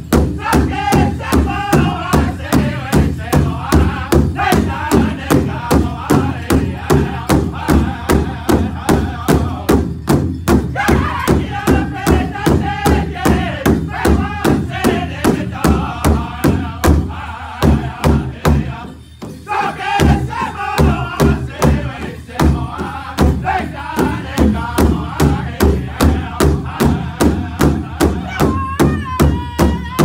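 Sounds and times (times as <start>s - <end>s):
large hide drum beating: 0.0s - 19.3s, 20.0s - 30.0s
men singing together: 0.2s - 10.0s, 10.7s - 30.0s.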